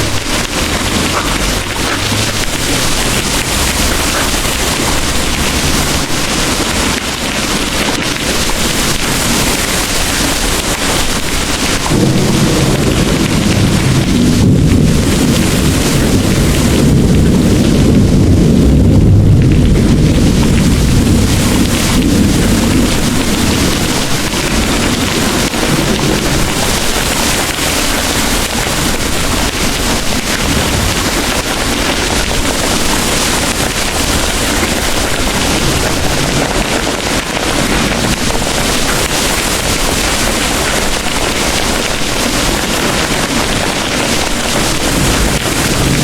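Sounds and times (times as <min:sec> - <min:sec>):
heavy rain pouring: 0:00.0 - 0:46.0
rolling thunder: 0:00.0 - 0:46.0.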